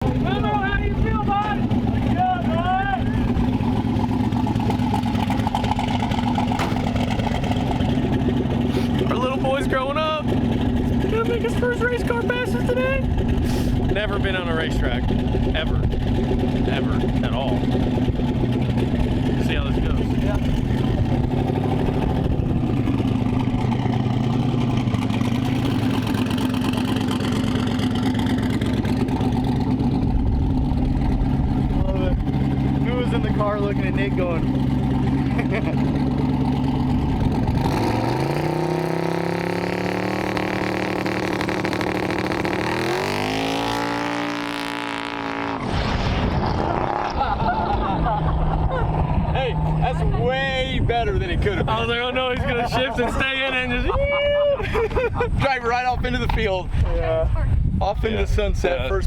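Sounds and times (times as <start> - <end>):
race car engine idling: 0.0 - 43.4, 47.5 - 53.8.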